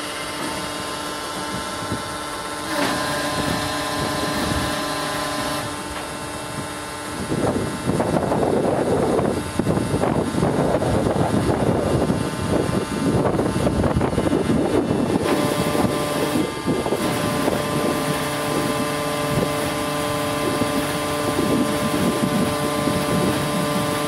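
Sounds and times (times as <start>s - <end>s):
hydraulic pump whine: 0.0s - 24.0s.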